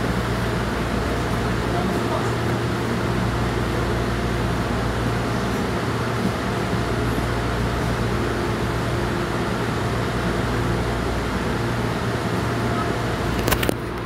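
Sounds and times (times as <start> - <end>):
train interior hum: 0.0 - 14.0.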